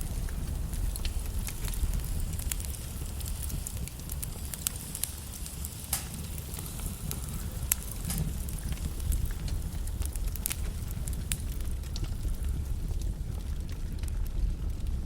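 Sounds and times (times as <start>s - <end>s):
flames rumbling: 0.0s - 15.0s
logs crackling and popping: 0.0s - 15.0s.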